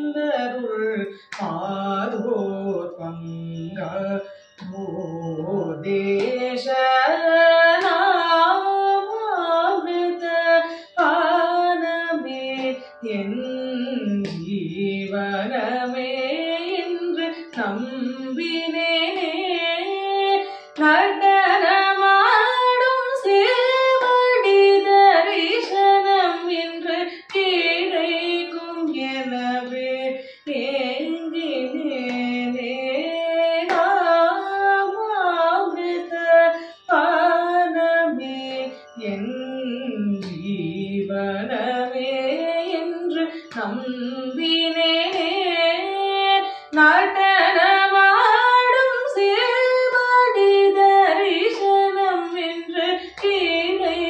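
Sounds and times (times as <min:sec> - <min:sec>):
woman singing: 0:00.0 - 0:54.0.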